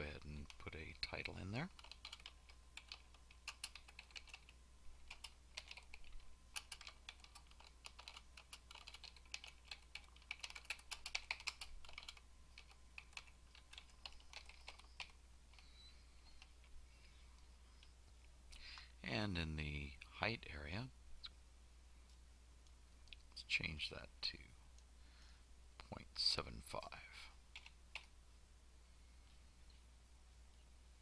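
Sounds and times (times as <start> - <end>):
faint typing on a keyboard: 0.0 - 19.0, 22.0 - 28.2.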